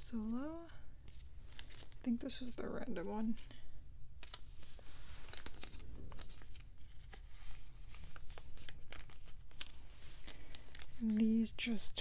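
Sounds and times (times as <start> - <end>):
plastic sleeves crinkling: 0.0 - 12.0.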